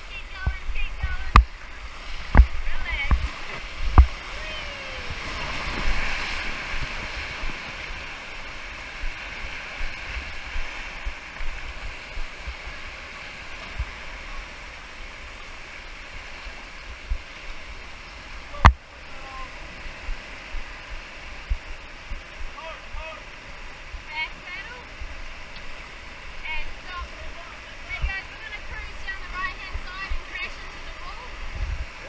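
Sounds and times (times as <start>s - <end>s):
rushing whitewater: 0.0s - 32.0s.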